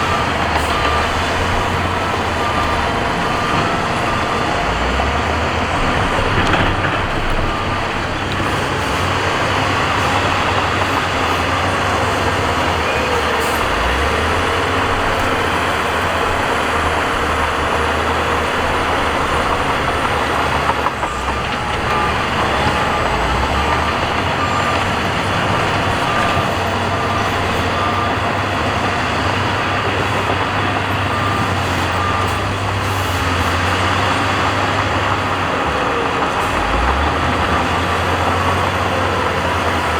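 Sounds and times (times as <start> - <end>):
diesel engine running: 0.0 - 39.9
reversing alarm beeping: 0.0 - 39.9.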